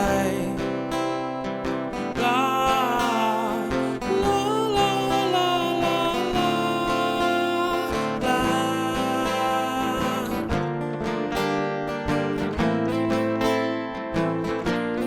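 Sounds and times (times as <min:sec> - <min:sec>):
pop ballad with acoustic guitar: 0:00.0 - 0:15.0.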